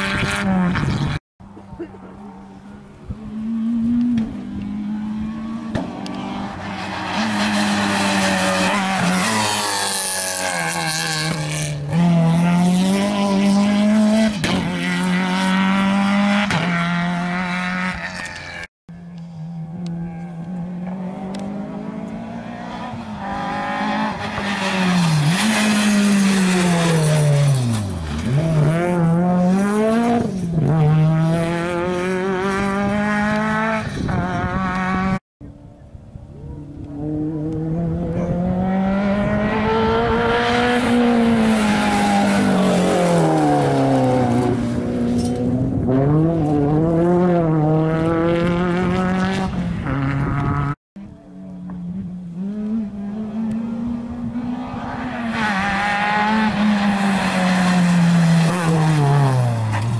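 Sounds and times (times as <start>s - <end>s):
rally car engine revving: 0.0s - 1.2s, 1.8s - 35.2s, 36.4s - 59.9s.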